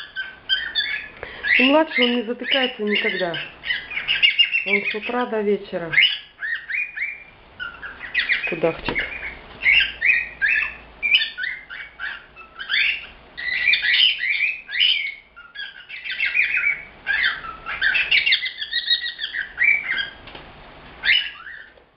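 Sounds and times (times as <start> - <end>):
cockatiel chirping and squawking: 0.0 - 5.3, 5.9 - 20.2, 21.0 - 21.8.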